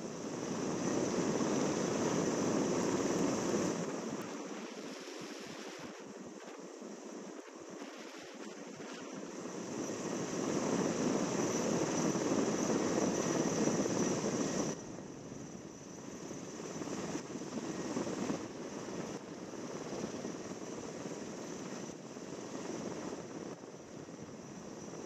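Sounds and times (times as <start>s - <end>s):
helicopter rotors and turbines: 0.0s - 25.0s.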